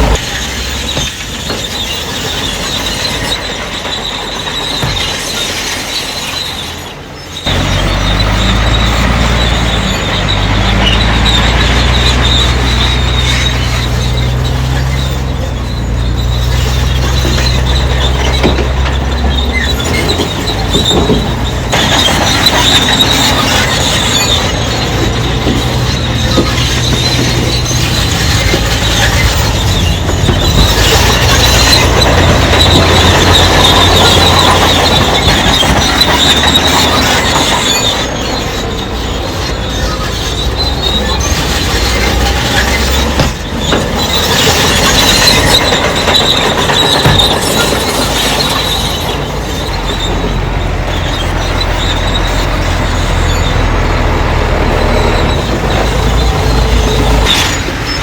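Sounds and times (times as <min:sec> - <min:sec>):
bulldozer diesel engine droning: 0:00.0 - 0:58.0
steel tracks squealing: 0:00.0 - 0:58.0.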